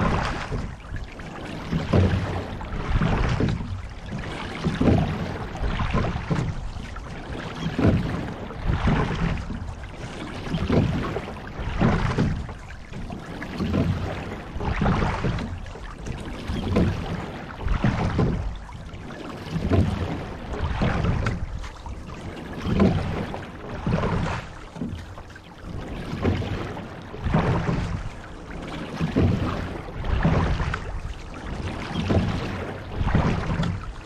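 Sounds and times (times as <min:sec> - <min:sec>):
oars splashing: 0:00.0 - 0:34.0
water rushing along hull: 0:00.0 - 0:34.0.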